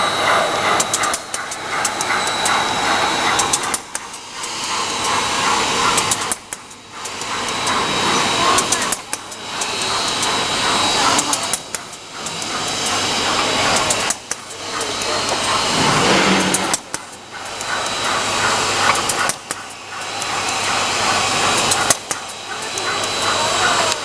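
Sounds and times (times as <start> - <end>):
high whine: 0.0 - 24.0
manufacturing machine running: 0.0 - 24.0
sharp mechanical ticks: 0.6 - 24.0.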